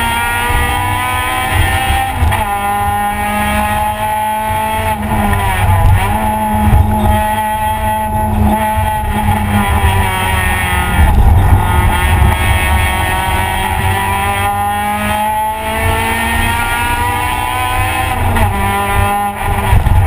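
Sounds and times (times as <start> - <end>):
race car engine at high revs: 0.0 - 20.0
road and wind rumble: 0.0 - 20.0.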